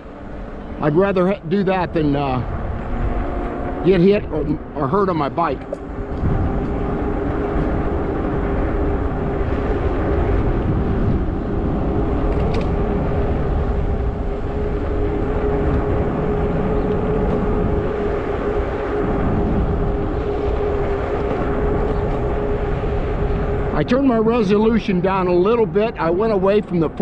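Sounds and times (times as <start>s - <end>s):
electric bike motor hum: 0.0s - 27.0s
wind rumbling on microphone: 0.0s - 27.0s.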